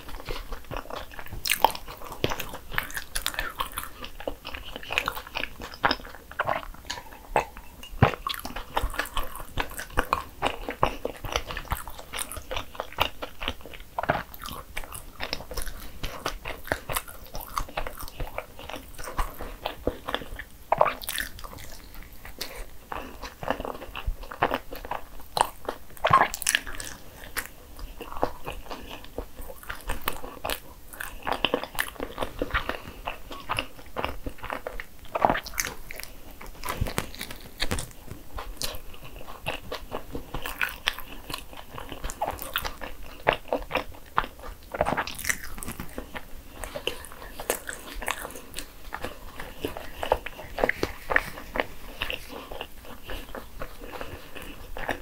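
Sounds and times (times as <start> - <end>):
person eating a bagel: 0.0 - 55.0.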